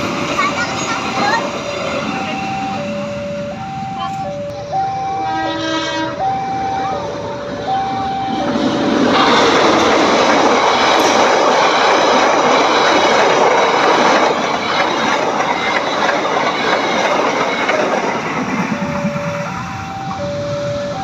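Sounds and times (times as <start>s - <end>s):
train wheels rumbling on rails: 0.0s - 21.0s
two-tone crossing alarm: 0.6s - 10.0s, 13.0s - 21.0s.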